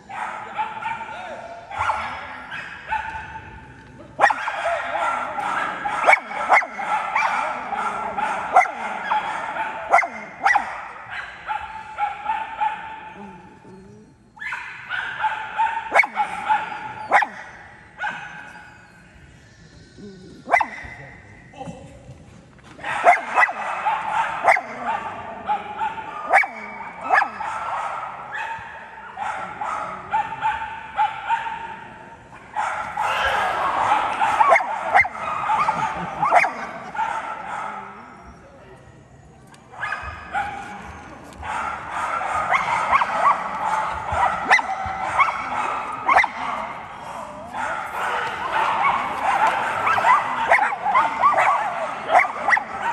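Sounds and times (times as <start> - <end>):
dog barking: 0.0 - 3.6, 4.2 - 18.9, 20.5 - 21.2, 22.8 - 38.3, 39.7 - 52.9.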